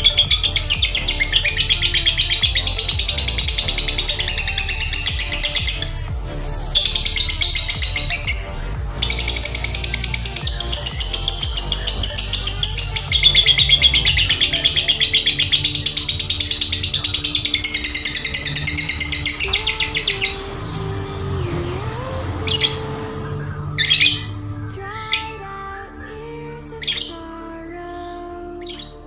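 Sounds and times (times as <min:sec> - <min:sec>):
quiet background music: 0:00.0 - 0:29.0.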